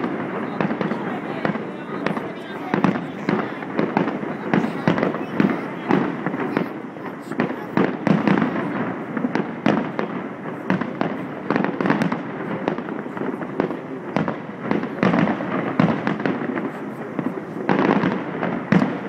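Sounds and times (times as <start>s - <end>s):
fireworks bursting with bangs: 0.0s - 19.0s.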